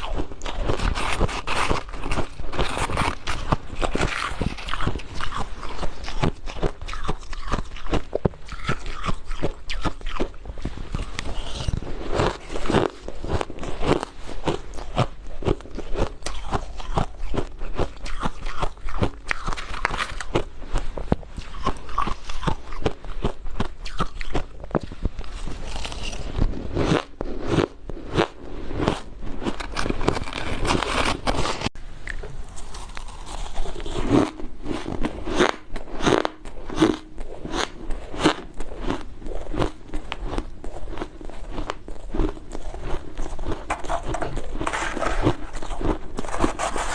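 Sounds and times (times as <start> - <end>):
ice being chewed crunching: 0.0 - 46.9.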